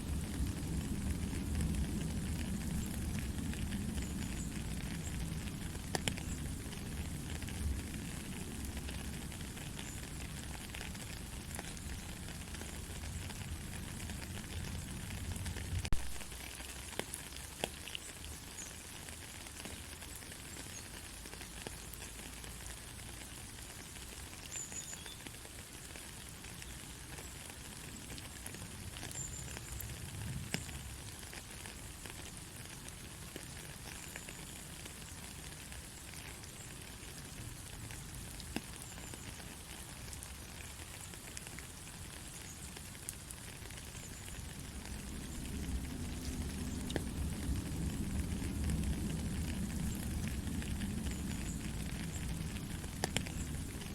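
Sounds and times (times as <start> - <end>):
soft steady rain: 0.0 - 53.9.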